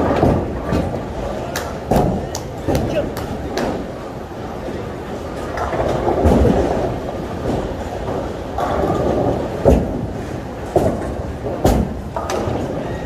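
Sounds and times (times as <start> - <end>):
bowling balls rumbling: 0.0 - 13.0.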